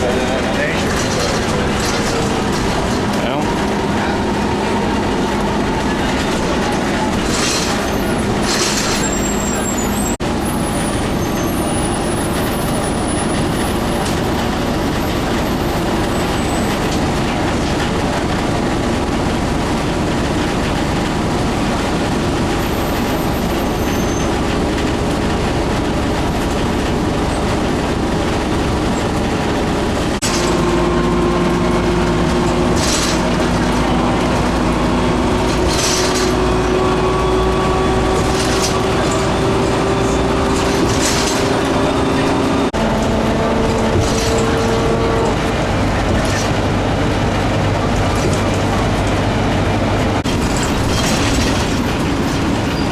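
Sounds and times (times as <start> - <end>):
bus engine and road noise: 0.0 - 52.9.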